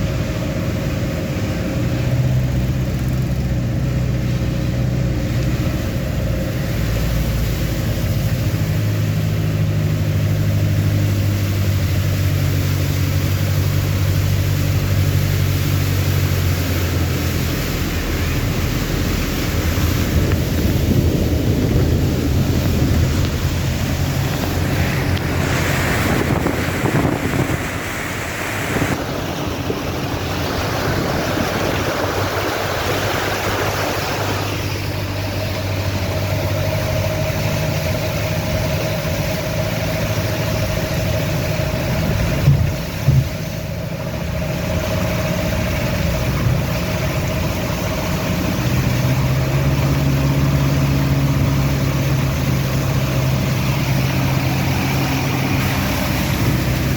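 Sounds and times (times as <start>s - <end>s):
steady whine: 0.0s - 56.9s
vehicle engine running: 0.0s - 56.9s
water splashing: 0.0s - 56.9s.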